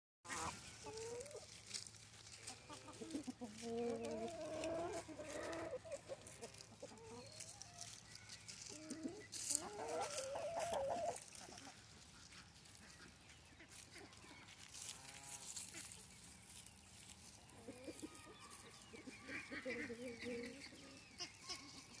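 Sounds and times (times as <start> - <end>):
chickens clucking: 0.3 - 22.0.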